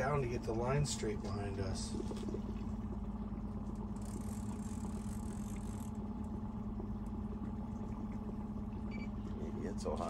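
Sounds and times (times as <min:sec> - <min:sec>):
outboard motor humming: 0:00.0 - 0:10.0.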